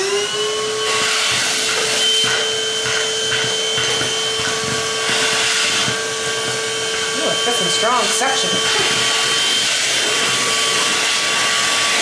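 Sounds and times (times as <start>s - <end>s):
handheld vacuum whining: 0.0s - 12.0s.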